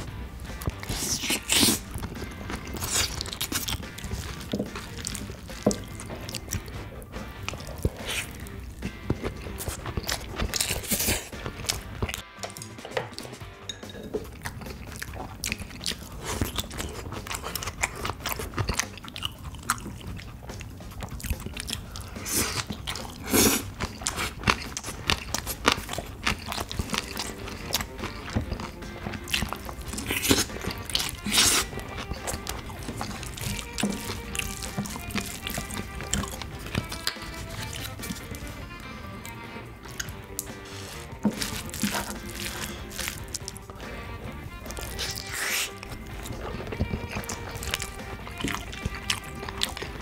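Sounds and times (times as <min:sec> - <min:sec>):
background music: 0:00.0 - 0:50.0
chewing and crunching: 0:00.0 - 0:50.0.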